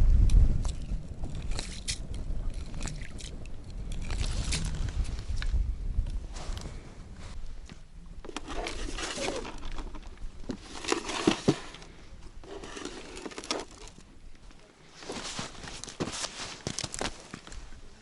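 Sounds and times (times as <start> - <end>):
rustling and crunching on ice: 0.6 - 5.6, 8.2 - 18.0.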